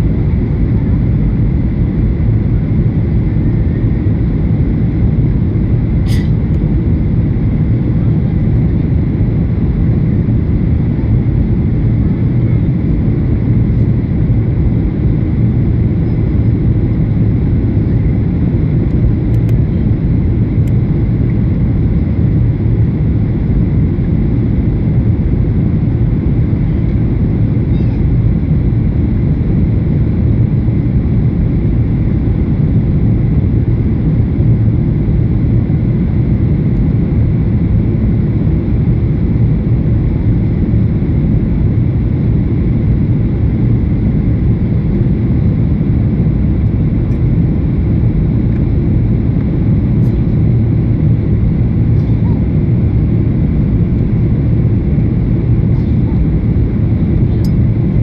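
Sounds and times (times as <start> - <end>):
faint steady whine: 0.0 - 58.0
jet engine cabin rumble: 0.0 - 58.0.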